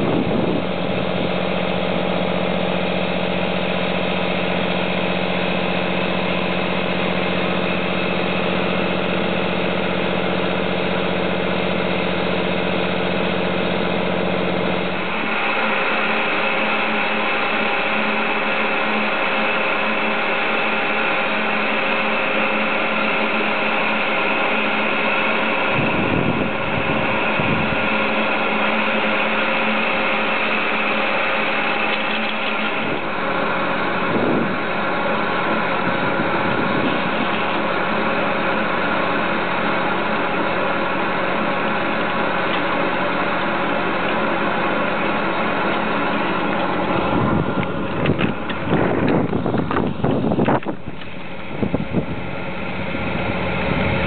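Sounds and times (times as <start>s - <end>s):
ski lift engine humming: 0.0s - 54.0s.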